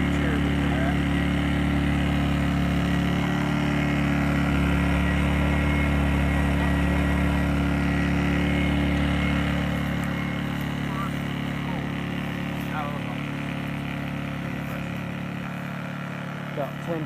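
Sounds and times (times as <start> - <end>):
generator engine running: 0.0 - 17.0.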